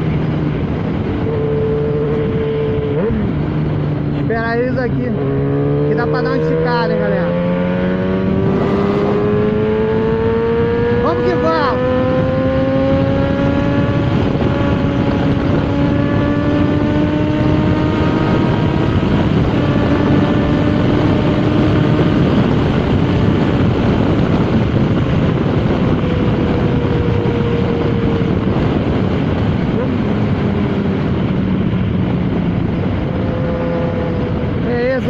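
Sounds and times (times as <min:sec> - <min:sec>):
motorcycle engine: 0:00.0 - 0:35.0
wind noise on microphone: 0:00.0 - 0:35.0.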